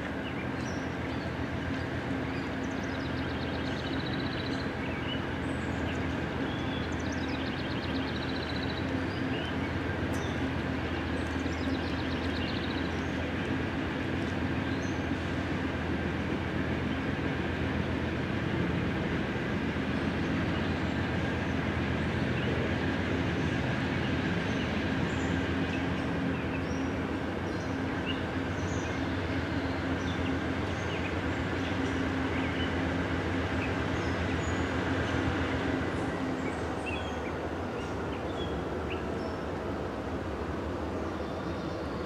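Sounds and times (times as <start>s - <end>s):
diesel locomotive engines droning: 0.0s - 42.0s
birds chirping: 0.1s - 15.8s, 19.8s - 39.7s.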